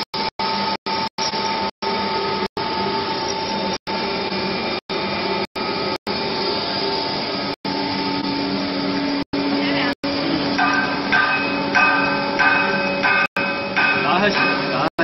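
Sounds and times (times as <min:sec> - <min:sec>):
mixer motor hum and whine: 0:00.0 - 0:13.8.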